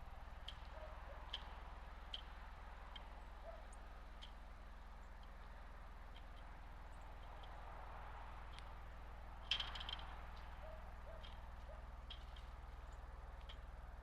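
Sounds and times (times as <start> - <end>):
birds ticking at feeder: 0.0 - 14.0
low steady hum: 0.0 - 14.0.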